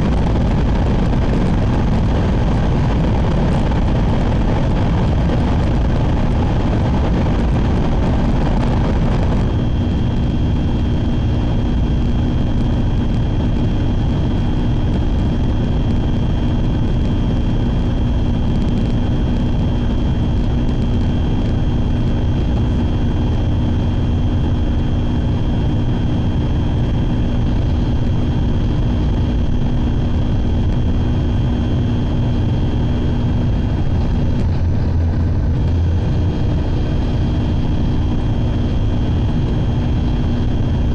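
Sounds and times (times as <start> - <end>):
thin high whine: 0.0 - 40.9
train rumble inside cabin: 0.0 - 40.9.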